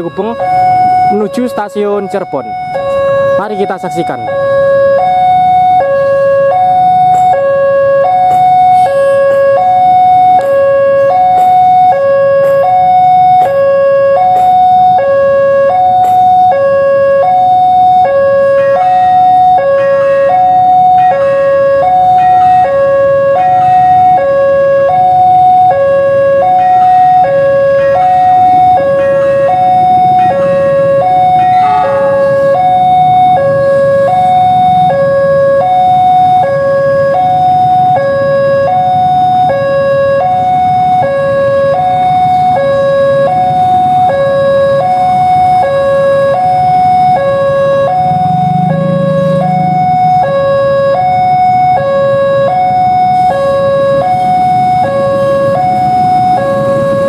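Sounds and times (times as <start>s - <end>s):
two-tone crossing alarm: 0.0s - 57.0s.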